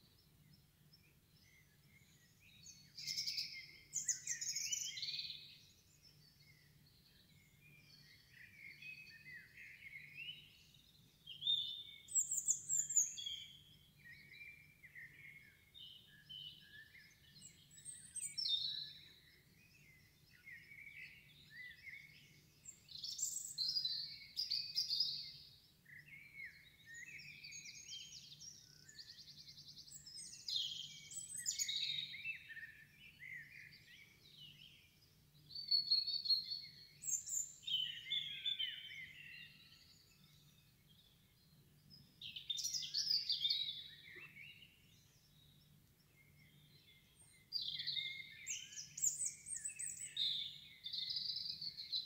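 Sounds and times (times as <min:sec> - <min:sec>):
songbird chirps and trills: 0:00.0 - 0:52.0.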